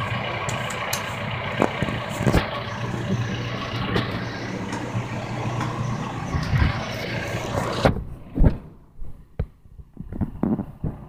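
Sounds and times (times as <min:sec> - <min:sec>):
diesel engine humming: 0:00.0 - 0:09.3.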